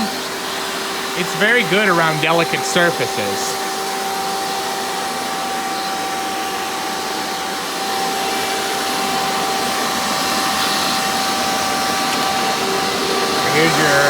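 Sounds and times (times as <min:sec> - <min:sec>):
vacuum cleaner motor whining: 0:00.0 - 0:14.0.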